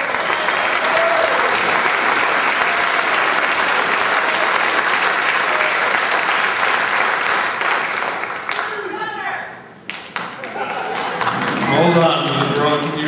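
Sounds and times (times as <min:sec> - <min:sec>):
audience applauding: 0:00.0 - 0:08.9, 0:09.9 - 0:13.0.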